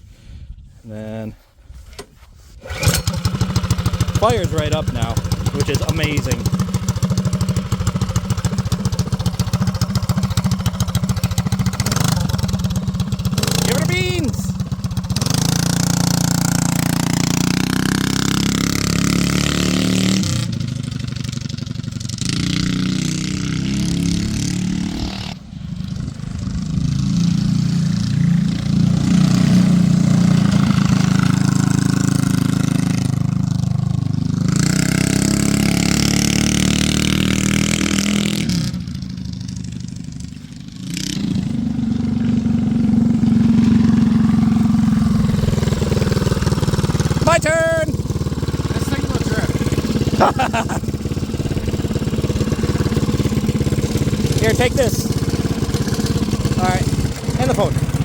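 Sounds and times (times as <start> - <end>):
small engine revving: 2.6 - 58.0.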